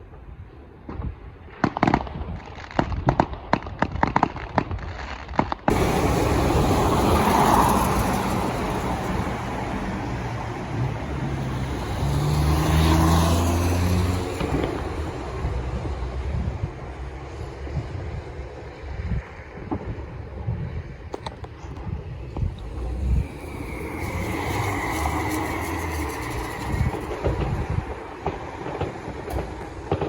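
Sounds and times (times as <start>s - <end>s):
fireworks bangs and crackles: 0.0s - 30.0s
road vehicle running: 5.7s - 30.0s
wind on microphone: 5.7s - 30.0s.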